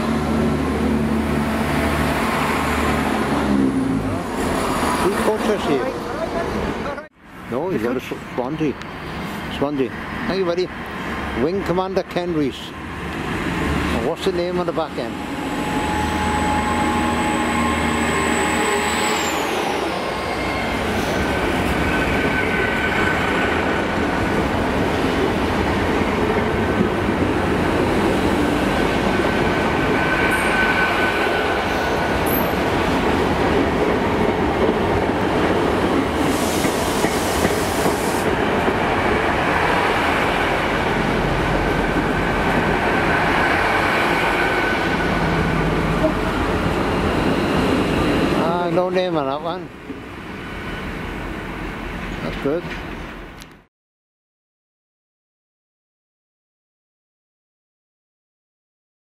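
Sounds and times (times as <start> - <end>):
train wheels rumbling on rail: 0.0 - 53.5.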